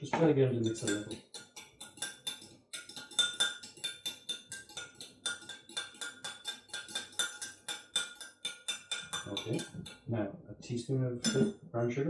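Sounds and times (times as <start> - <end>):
spoon clinking against glass: 0.1 - 10.0, 11.2 - 11.5.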